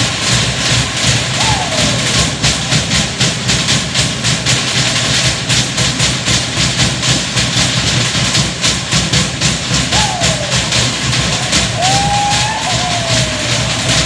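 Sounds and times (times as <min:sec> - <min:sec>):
fast log drumming: 0:00.0 - 0:14.0.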